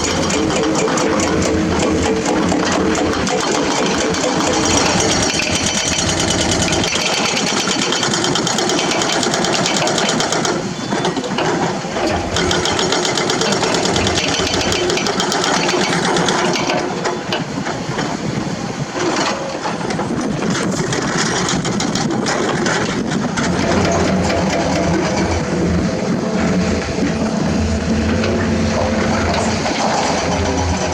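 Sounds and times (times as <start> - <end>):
diesel engine clattering: 0.0 - 30.9.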